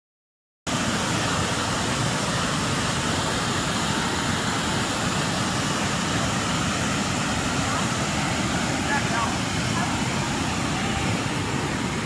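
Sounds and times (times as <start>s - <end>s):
waterfall roaring: 0.7s - 12.0s.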